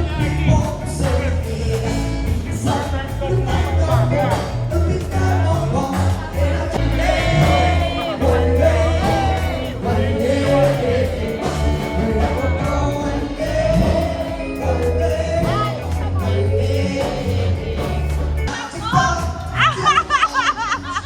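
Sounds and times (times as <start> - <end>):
song with singing and beat: 0.0 - 21.0.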